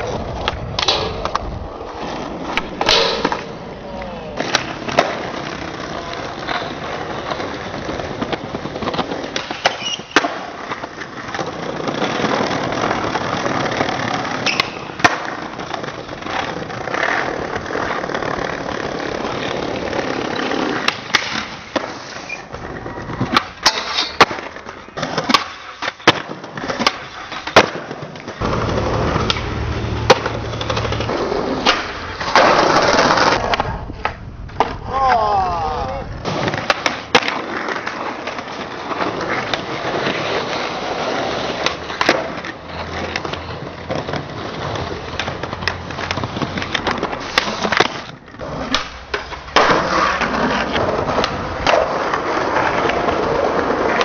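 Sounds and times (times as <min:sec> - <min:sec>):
skateboard clacking on ground: 0:00.0 - 0:54.0
skateboard wheels rolling on pavement: 0:00.0 - 0:54.0.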